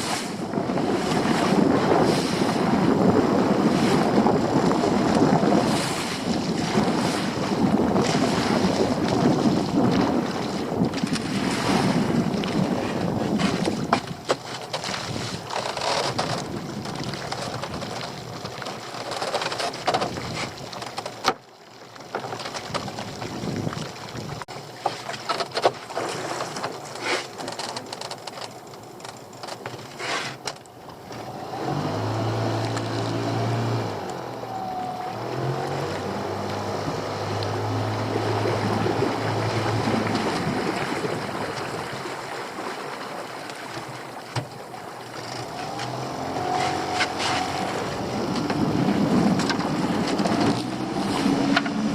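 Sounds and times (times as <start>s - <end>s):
boat engine droning: 0.0s - 51.9s
water: 0.0s - 51.9s
wind: 0.0s - 51.9s.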